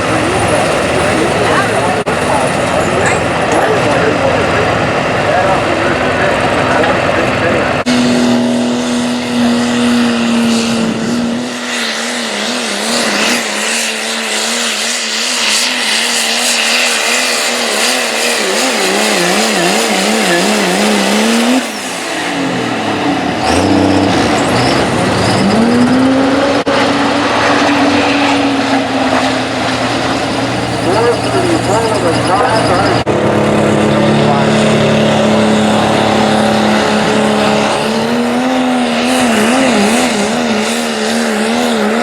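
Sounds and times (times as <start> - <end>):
diesel truck engine under load: 0.0 - 42.0.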